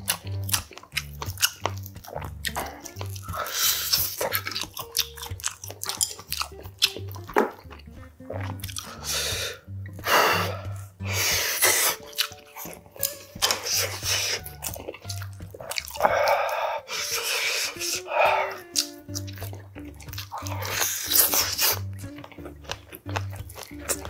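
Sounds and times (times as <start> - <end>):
background music with low beat: 0.0 - 24.0
man chewing and lip-smacking: 0.0 - 24.0.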